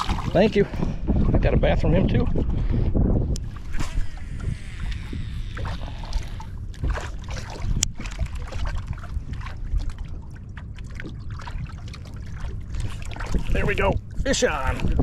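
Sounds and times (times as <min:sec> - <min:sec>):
water slapping against hull: 0:00.0 - 0:15.0
wind buffeting microphone: 0:00.0 - 0:15.0.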